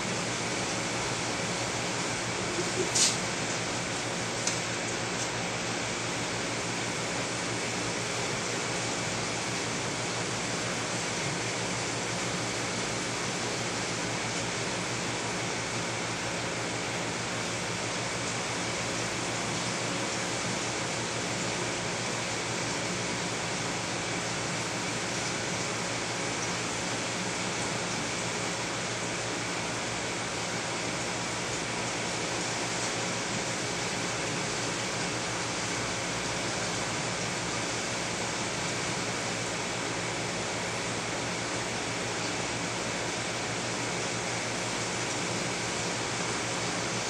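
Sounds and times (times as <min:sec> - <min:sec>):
aquarium water hiss: 0:00.0 - 0:47.0.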